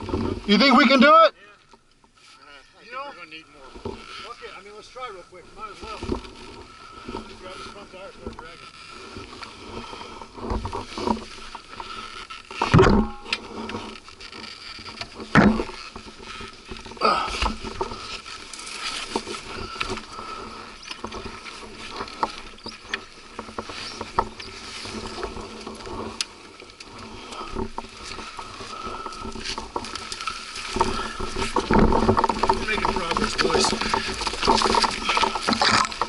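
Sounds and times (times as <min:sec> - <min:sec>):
dirt bike dragged over rocks: 0:00.0 - 0:01.6, 0:02.4 - 0:36.0.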